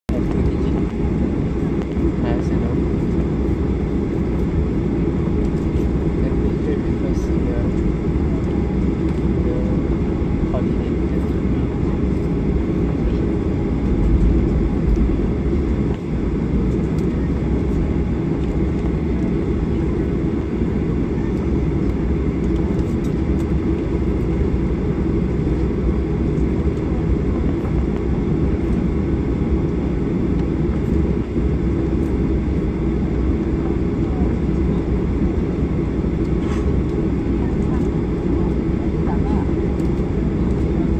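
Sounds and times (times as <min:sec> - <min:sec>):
airplane cabin low rumble: 0:00.1 - 0:40.9.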